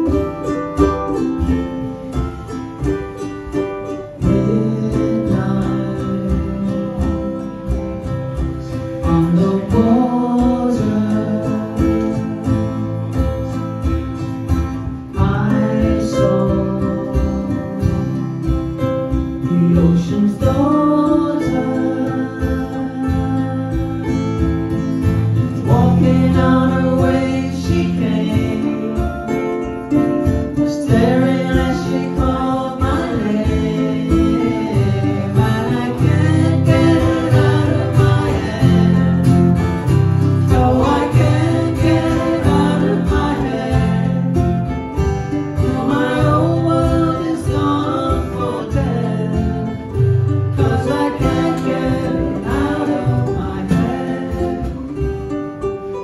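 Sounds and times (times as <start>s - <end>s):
acoustic guitar strumming: 0.0s - 56.0s
person singing: 0.0s - 56.0s
ukulele strumming: 0.0s - 56.0s.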